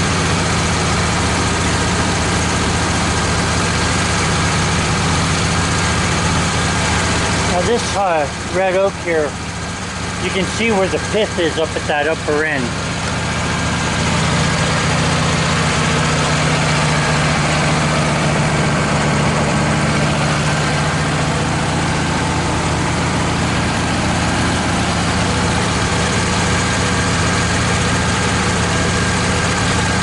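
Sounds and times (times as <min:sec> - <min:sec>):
sawmill engine droning: 0:00.0 - 0:30.0.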